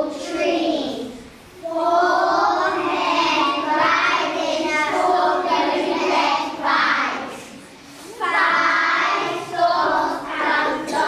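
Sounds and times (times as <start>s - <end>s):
children singing in unison: 1.6s - 11.0s.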